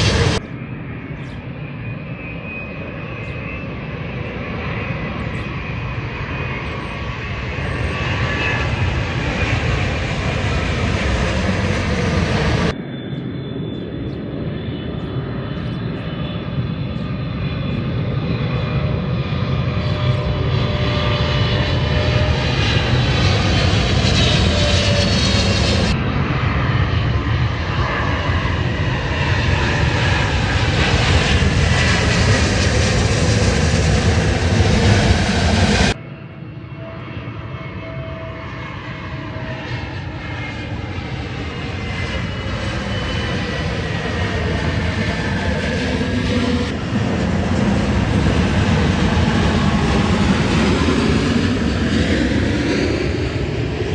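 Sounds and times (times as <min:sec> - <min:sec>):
jet airliners passing overhead: 0:00.0 - 0:53.9.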